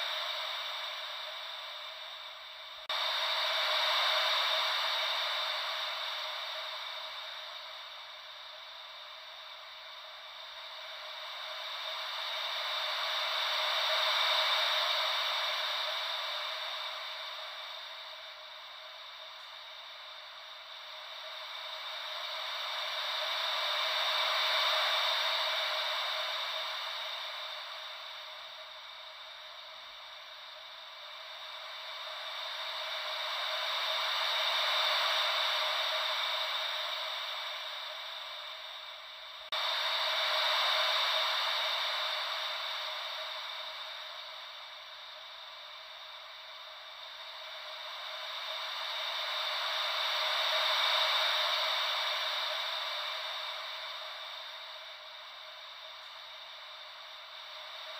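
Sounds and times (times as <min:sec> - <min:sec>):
ocean wave white noise: 0:00.0 - 0:57.9.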